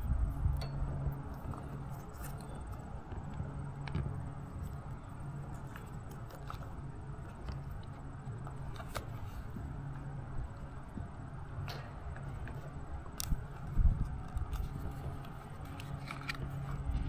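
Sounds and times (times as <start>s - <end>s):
low hum: 0.0s - 17.0s
low outdoor rumble: 0.0s - 17.0s.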